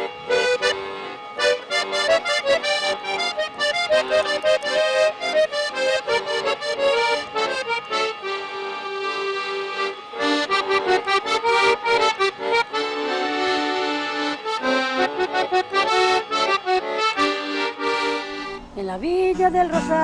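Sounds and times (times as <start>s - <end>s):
accordion traditional music: 0.0s - 18.9s.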